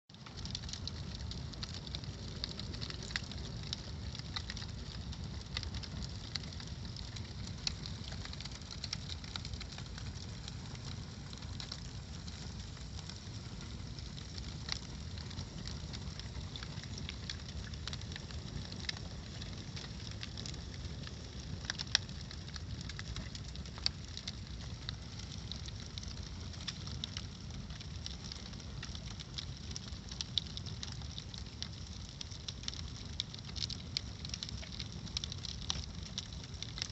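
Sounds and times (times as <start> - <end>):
bonfire crackling and popping: 0.1 - 36.9.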